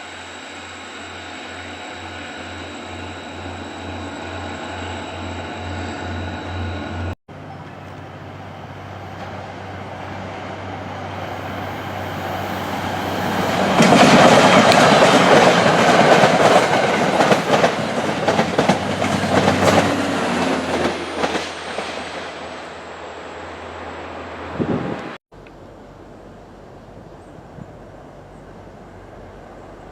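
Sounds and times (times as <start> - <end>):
passenger train passing: 0.0 - 29.9.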